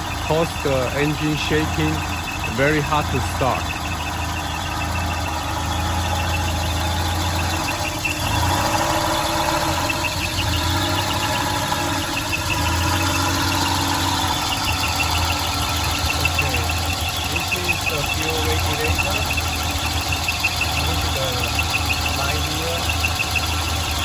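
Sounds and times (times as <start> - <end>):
car engine idling rough: 0.0 - 24.0.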